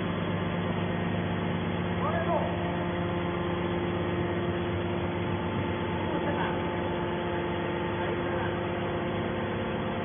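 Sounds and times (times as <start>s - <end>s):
hydraulic machine humming: 0.0s - 10.0s.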